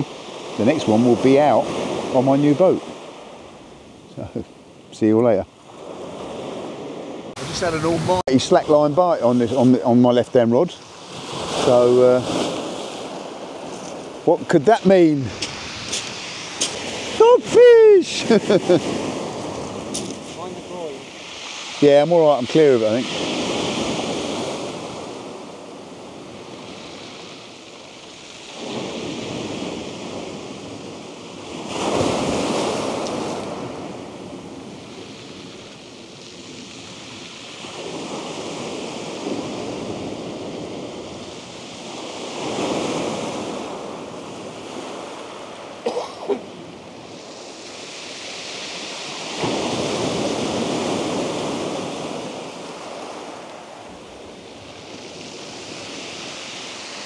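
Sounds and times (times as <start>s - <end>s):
surf breaking on beach: 0.0s - 57.0s.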